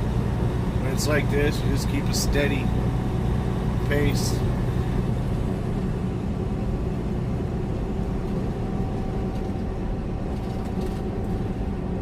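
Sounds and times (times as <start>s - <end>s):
diesel engine hum: 0.0s - 12.0s
road and wind noise: 0.0s - 12.0s.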